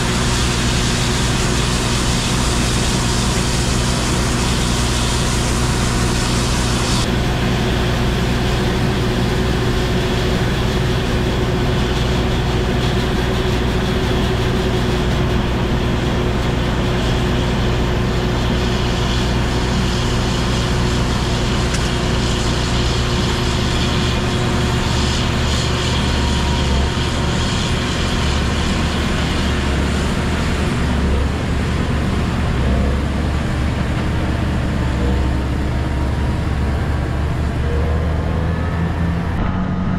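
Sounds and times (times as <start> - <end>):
farm machine engine running: 0.0 - 39.9.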